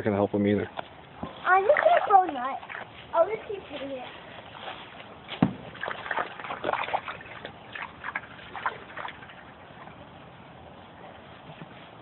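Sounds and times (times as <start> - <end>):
water splashing and sloshing: 0.8 - 12.0.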